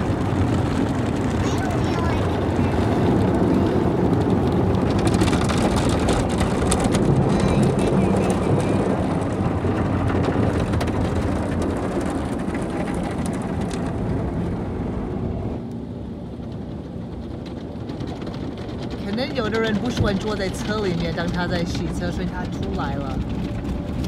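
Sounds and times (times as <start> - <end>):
water spraying on car: 0.0 - 15.4, 16.2 - 24.0.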